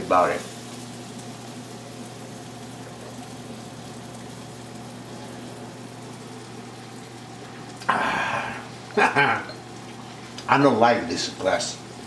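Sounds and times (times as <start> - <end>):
gas stove burners humming: 0.0 - 12.0.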